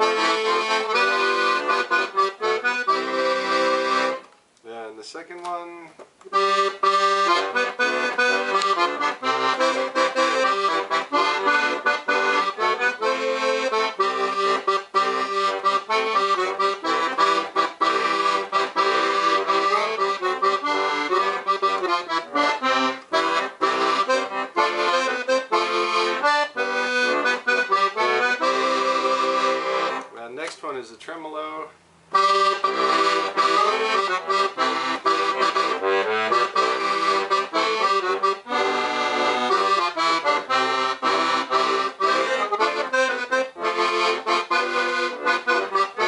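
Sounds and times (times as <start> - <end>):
accordion playing a tune: 0.0 - 30.8, 31.4 - 46.0.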